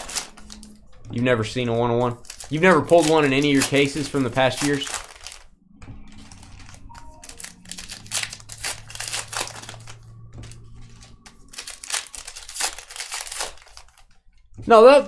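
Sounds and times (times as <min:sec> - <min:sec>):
foil wrapper crinkling: 0:00.0 - 0:00.8, 0:01.4 - 0:05.5, 0:06.2 - 0:14.4.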